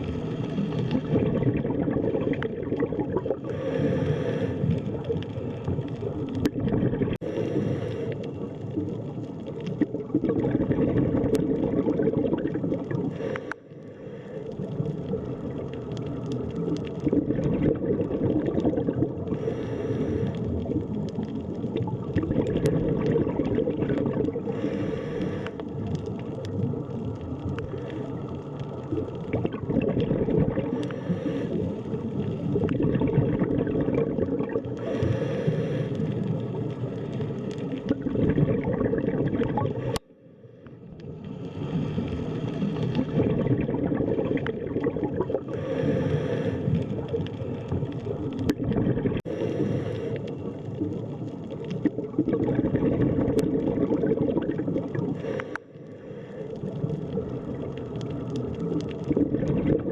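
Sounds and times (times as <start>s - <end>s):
underwater churning water: 0.0s - 59.9s.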